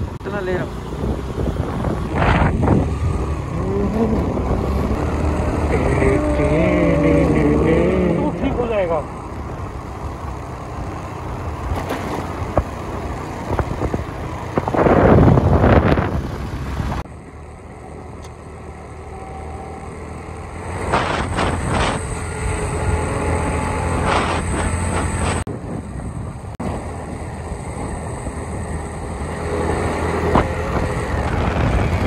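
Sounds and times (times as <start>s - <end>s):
tyre and wind noise: 0.0s - 8.2s, 10.7s - 17.1s, 20.6s - 32.0s
motor scooter engine: 0.0s - 32.0s.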